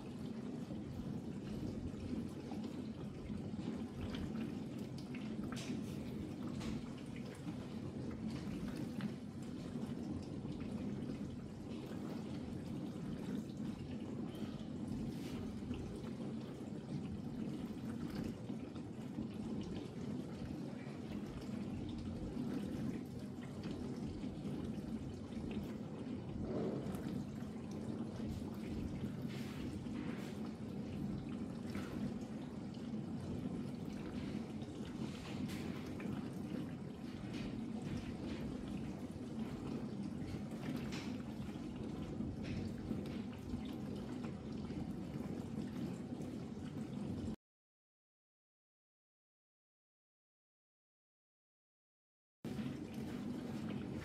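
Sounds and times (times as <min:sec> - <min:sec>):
dishwasher humming: 0:00.0 - 0:47.4
water splashing and dripping: 0:00.0 - 0:47.4, 0:52.5 - 0:54.0.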